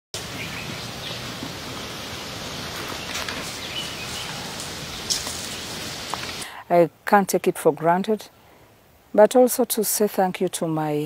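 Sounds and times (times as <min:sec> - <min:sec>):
outdoor background hiss: 0:00.2 - 0:11.0.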